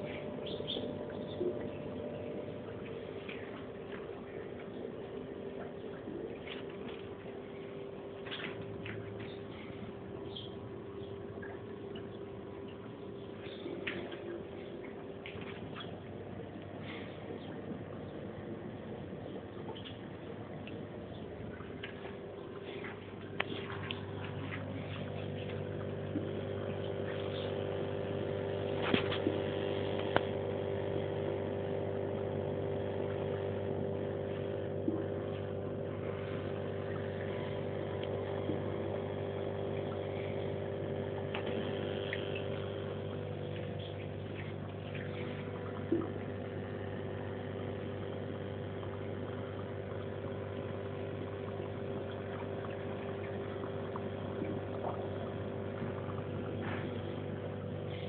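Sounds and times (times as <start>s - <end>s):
aquarium pump humming: 0.0s - 58.0s
water trickling and bubbling: 0.0s - 58.0s.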